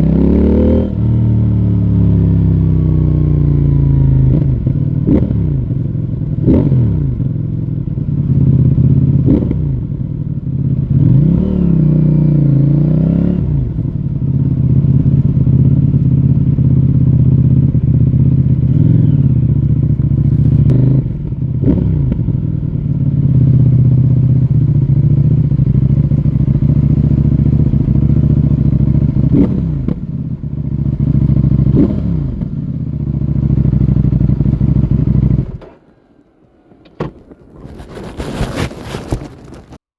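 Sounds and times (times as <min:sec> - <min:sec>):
motorcycle engine revving: 0:00.0 - 0:39.7.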